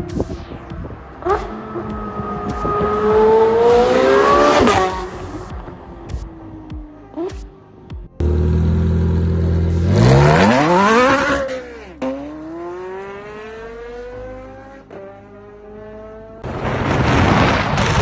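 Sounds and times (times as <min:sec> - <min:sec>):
sports car engine revving: 0:00.0 - 0:07.4, 0:08.2 - 0:16.4.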